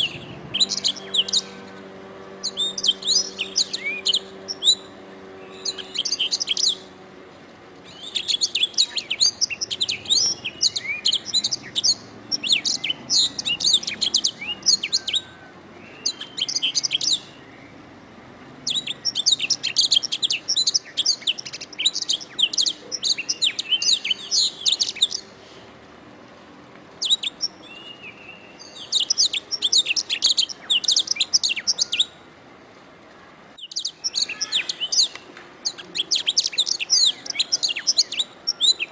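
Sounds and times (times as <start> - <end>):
canary singing: 0.0 - 18.0, 18.6 - 25.4, 27.0 - 32.2, 33.6 - 38.9.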